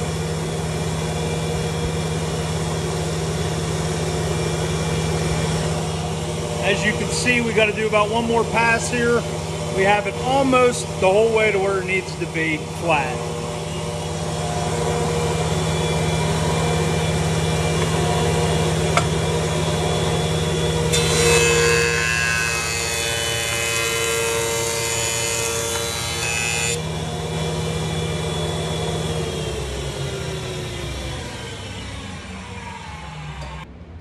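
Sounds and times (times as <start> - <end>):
jointer motor humming: 0.0 - 33.7.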